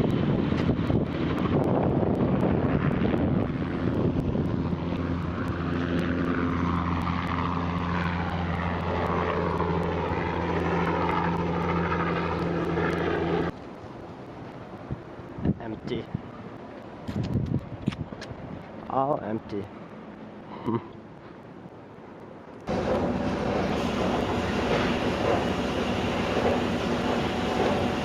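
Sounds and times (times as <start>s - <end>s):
helicopter flying overhead: 0.0s - 17.8s, 21.5s - 28.0s.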